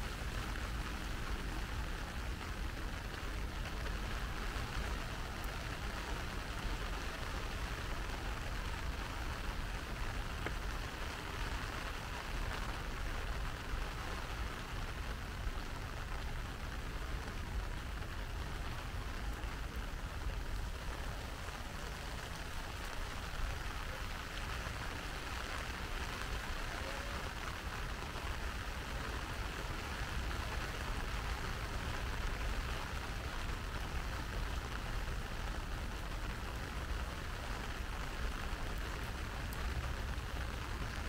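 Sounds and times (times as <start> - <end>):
rain pattering: 0.0 - 41.0.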